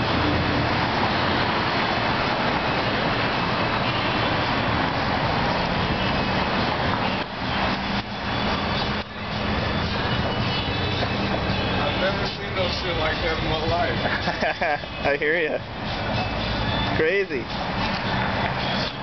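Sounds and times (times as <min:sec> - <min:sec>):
passing vehicle engine hum: 0:00.0 - 0:19.0
street traffic noise: 0:00.0 - 0:19.0.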